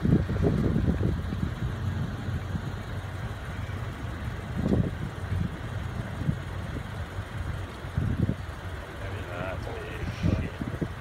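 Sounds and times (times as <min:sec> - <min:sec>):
truck engine under load: 0:00.0 - 0:11.0.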